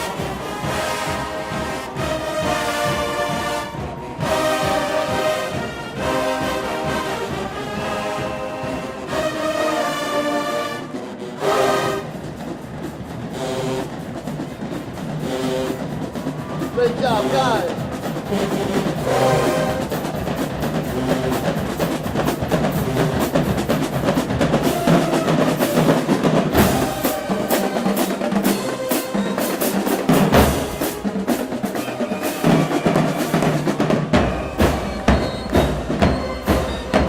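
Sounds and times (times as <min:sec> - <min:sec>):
snare and bass drumline: 0:00.0 - 0:37.0.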